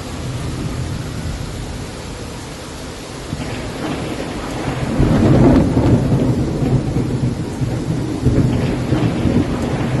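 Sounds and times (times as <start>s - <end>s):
heavy rain rushing: 0.0s - 10.0s
low rumble of thunder: 0.0s - 10.0s.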